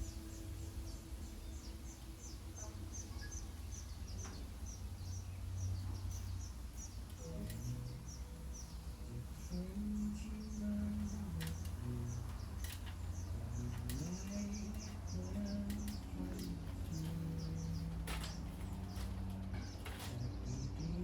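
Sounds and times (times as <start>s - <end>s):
bird chirping: 0.0s - 21.0s
low outdoor rumble: 0.0s - 21.0s.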